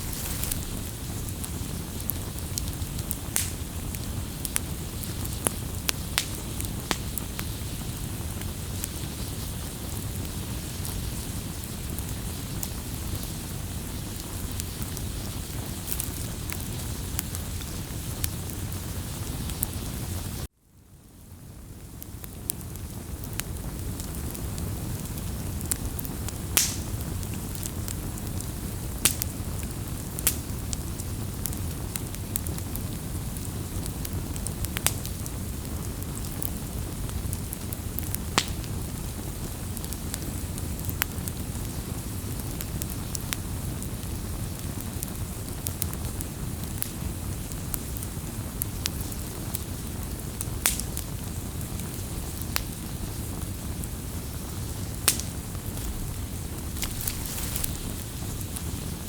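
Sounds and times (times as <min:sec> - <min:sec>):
rush of flames: 0:00.0 - 0:20.5, 0:21.6 - 0:59.0
fire crackling and popping: 0:00.0 - 0:59.0.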